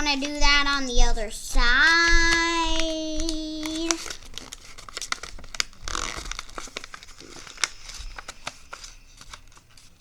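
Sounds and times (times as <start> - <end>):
paper folding and crinkling: 0.0 - 1.0, 1.8 - 10.0.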